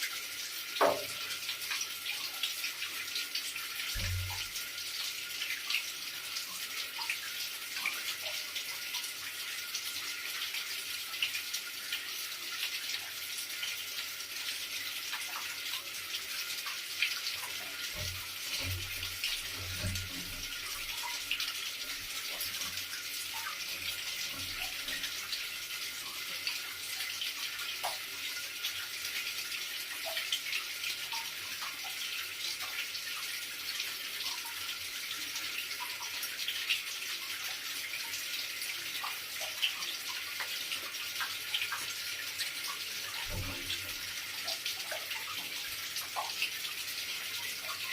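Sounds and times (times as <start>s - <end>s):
running water splashing: 0.0s - 47.9s.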